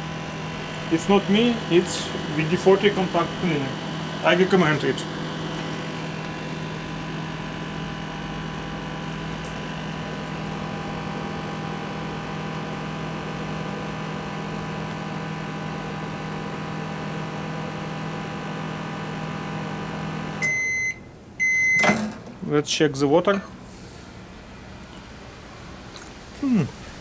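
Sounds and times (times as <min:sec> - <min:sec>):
microwave oven humming: 0:00.0 - 0:22.4, 0:26.4 - 0:26.7.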